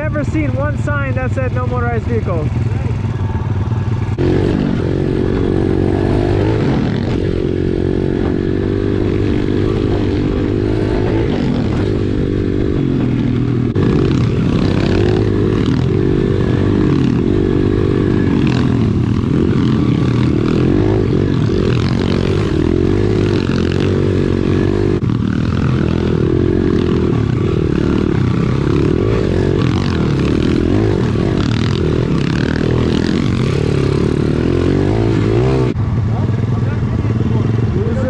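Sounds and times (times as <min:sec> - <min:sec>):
motorbike engine revving: 0:00.0 - 0:38.0.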